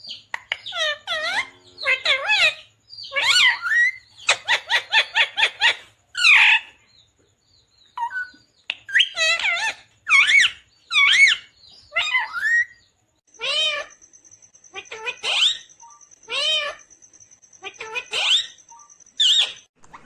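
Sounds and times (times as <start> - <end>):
parakeet chirping and calling: 0.0 - 7.0, 7.7 - 19.7.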